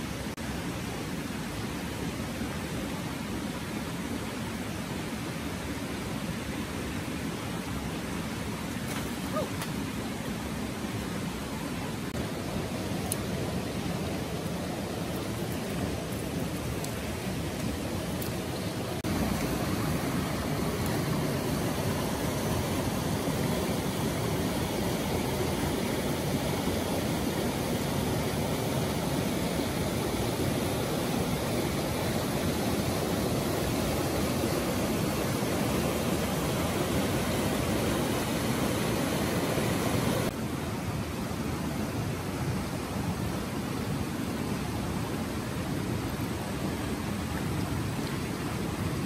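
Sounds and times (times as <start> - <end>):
creek water rushing over stones: 0.0 - 49.0.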